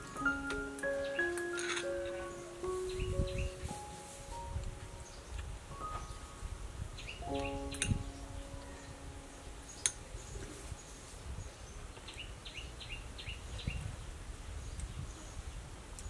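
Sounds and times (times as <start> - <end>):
high falling bird chirps: 0.0 - 13.7.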